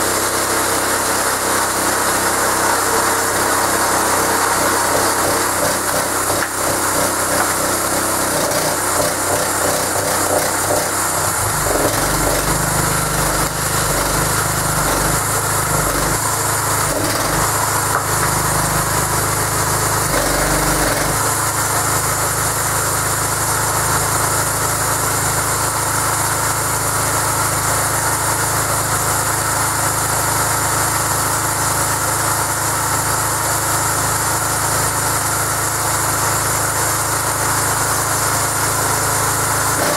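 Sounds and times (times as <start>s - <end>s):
petrol engine running: 0.0s - 39.9s.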